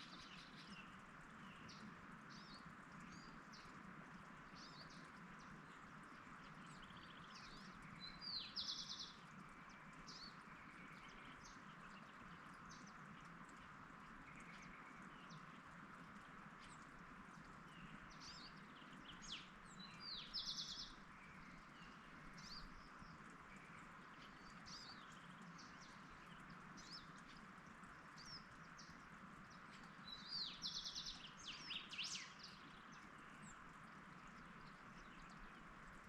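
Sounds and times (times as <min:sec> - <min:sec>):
songbird singing with trill: 0:00.0 - 0:03.8, 0:04.5 - 0:13.6, 0:17.6 - 0:27.5, 0:28.1 - 0:35.7
soft background hiss: 0:00.0 - 0:36.0.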